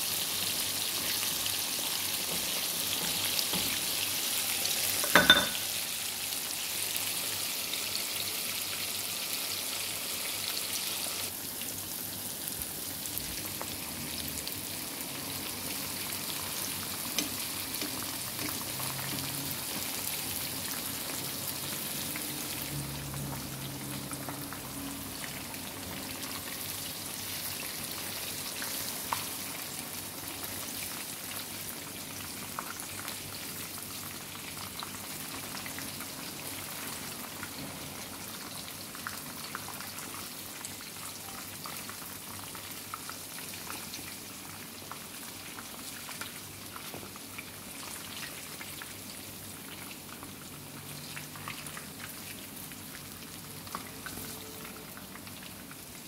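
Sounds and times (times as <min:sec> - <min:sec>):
food deep-frying in hot oil: 0:00.0 - 0:56.0.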